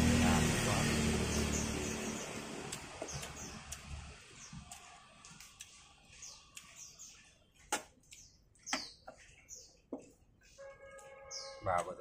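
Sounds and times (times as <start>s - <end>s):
small bird chirping: 0.6s - 12.0s.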